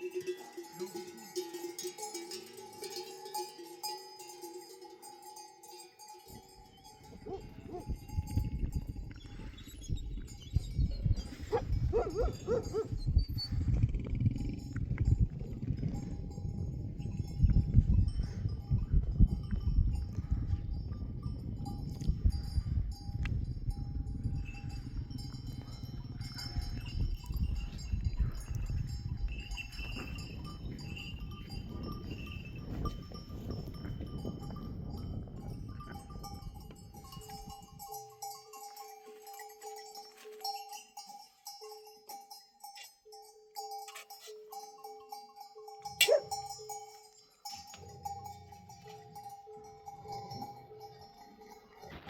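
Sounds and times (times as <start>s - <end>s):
sheep bells clanking: 0.0s - 52.0s.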